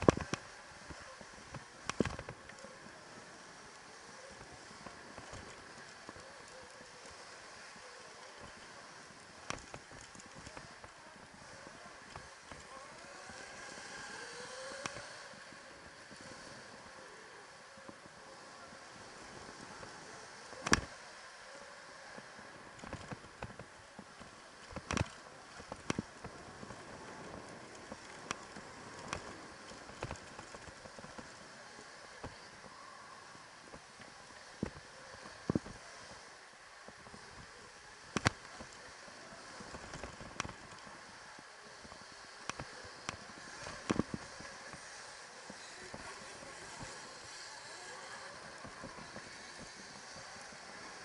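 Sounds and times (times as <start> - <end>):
steady low hiss: 0.0 - 51.0
wind and tyre noise: 0.0 - 51.0.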